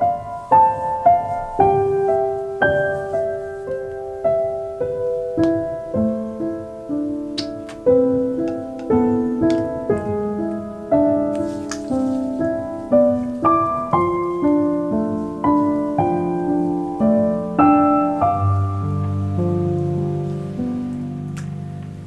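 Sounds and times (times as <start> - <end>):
calm piano music: 0.0 - 22.0.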